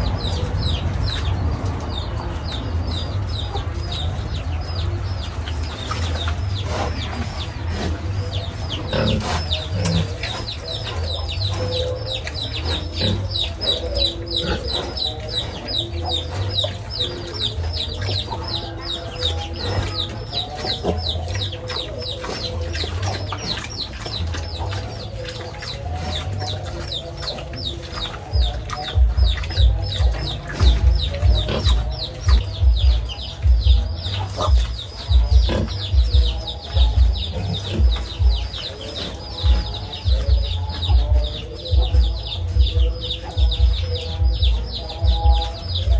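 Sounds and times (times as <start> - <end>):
chicks peeping: 0.0 - 45.9
low uneven rumble: 0.0 - 45.9.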